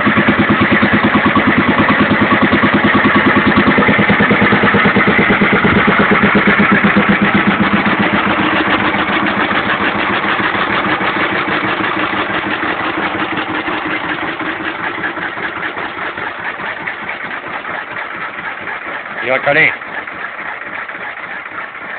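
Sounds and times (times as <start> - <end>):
old engine running: 0.0 - 21.9.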